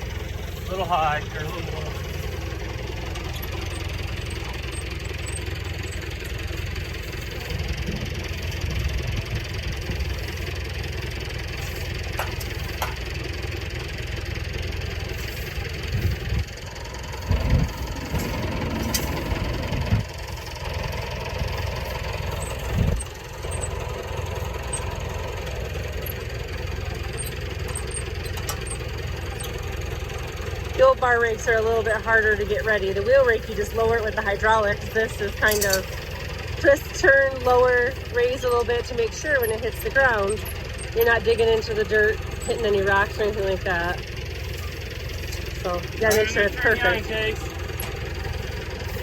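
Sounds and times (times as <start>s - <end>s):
tractor engine idling: 0.0s - 49.0s.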